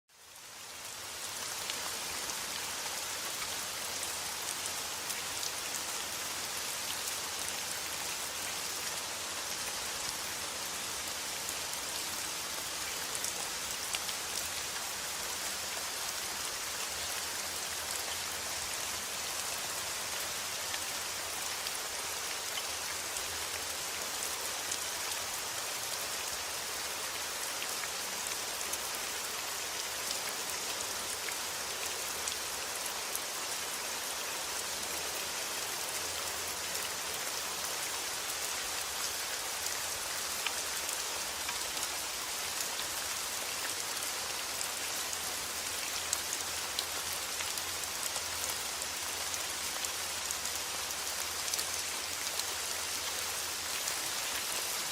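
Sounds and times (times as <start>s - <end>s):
steady rain falling: 0.1s - 54.9s.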